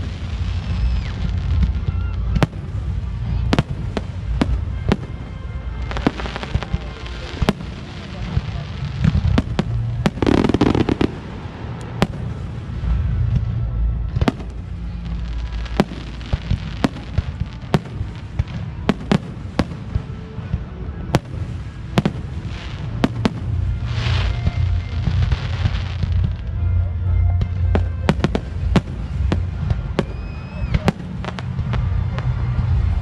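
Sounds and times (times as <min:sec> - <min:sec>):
fireworks bangs: 0:00.0 - 0:26.5, 0:27.4 - 0:33.0
fireworks crackling: 0:00.0 - 0:26.6, 0:27.4 - 0:33.0
low rumble: 0:00.0 - 0:33.0.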